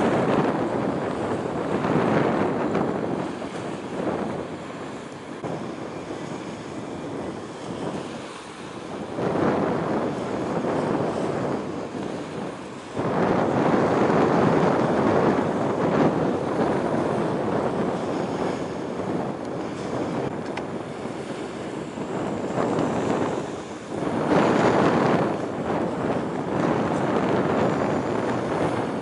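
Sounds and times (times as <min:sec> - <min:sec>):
waves washing in: 0:00.0 - 0:29.0
wind rushing over microphone: 0:00.0 - 0:29.0.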